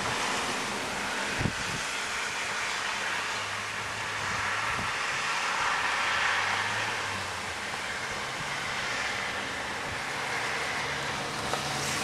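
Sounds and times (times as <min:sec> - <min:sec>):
wind and rain hiss: 0:00.0 - 0:12.0.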